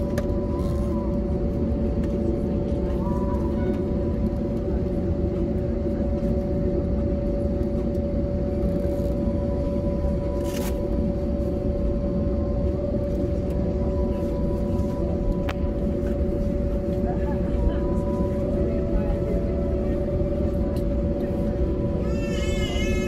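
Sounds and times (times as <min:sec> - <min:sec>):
aircraft cabin rumble: 0:00.0 - 0:23.0
jet engines whining at idle: 0:00.0 - 0:23.0.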